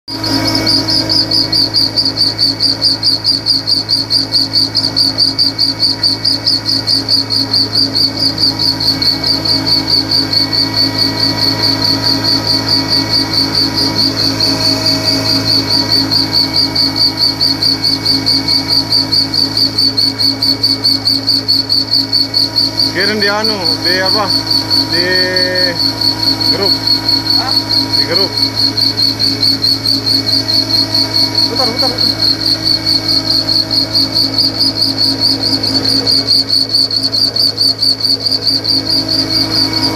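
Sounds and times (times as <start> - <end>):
boring machine hum: 0.1 - 39.9
high chirping squeak: 0.1 - 39.9.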